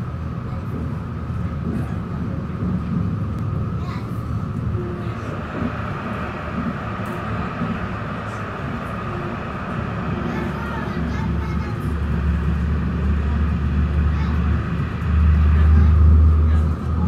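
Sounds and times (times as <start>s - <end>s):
tram wheels rumbling on rails: 0.0s - 17.0s
high drive hum: 1.2s - 17.0s.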